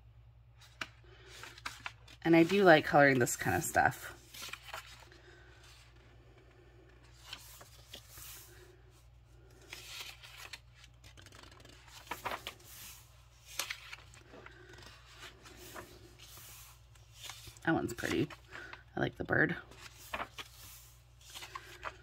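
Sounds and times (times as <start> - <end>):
book pages turning: 0.6 - 18.9, 19.6 - 22.0.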